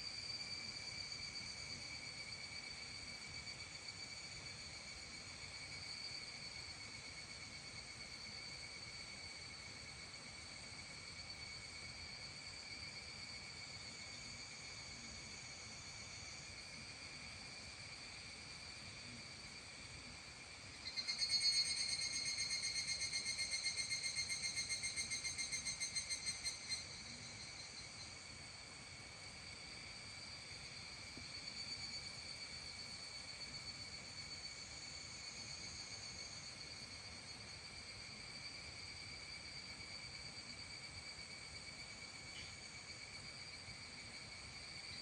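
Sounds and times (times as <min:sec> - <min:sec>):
insects trilling: 0:00.0 - 0:45.0
rapid pulsing insect call: 0:00.0 - 0:45.0.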